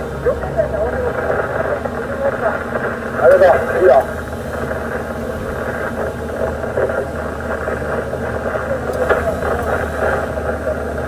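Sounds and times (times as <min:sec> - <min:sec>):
crane diesel engine running: 0:00.0 - 0:11.0.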